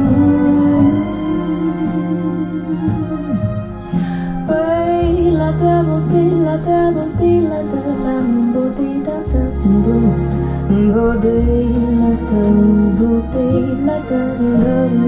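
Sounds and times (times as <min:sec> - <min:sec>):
held bass notes: 0:00.0 - 0:15.0
recorded music over speakers: 0:00.0 - 0:15.0.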